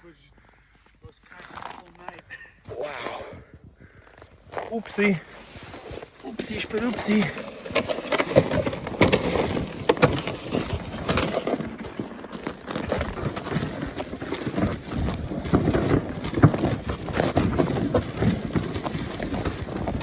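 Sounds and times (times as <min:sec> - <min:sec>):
footsteps crunching on ice: 0:00.3 - 0:02.9, 0:03.9 - 0:20.0.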